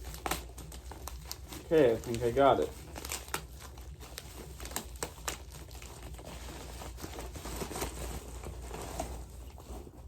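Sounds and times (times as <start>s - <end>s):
plastic and bubble wrap crinkling: 0.0s - 10.0s.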